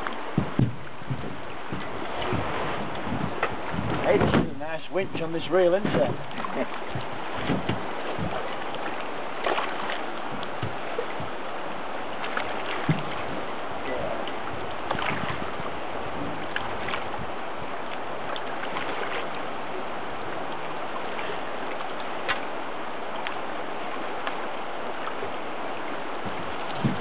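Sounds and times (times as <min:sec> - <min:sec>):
river current rushing: 0:00.0 - 0:27.0.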